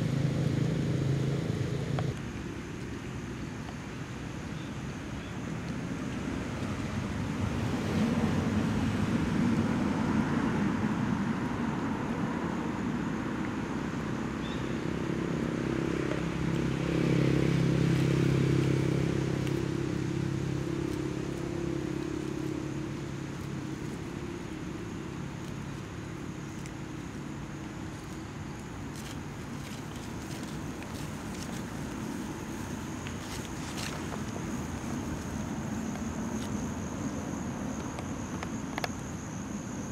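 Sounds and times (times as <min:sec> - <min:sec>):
passing vehicle engine drone: 0:00.0 - 0:02.2, 0:06.3 - 0:38.5.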